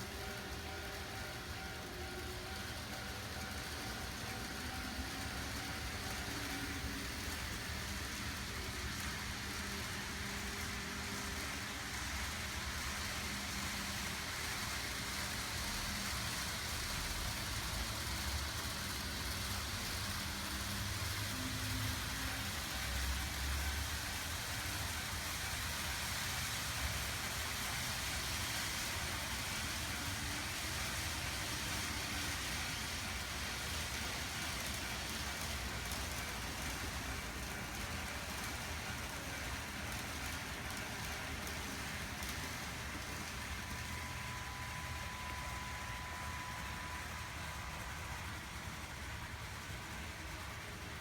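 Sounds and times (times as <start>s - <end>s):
small wheels rolling on rail: 0.0s - 51.0s.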